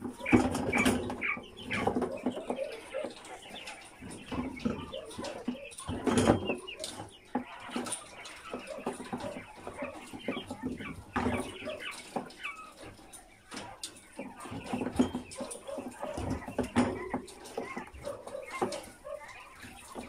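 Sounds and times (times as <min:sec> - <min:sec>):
quail chirping and calling: 0:00.0 - 0:20.0.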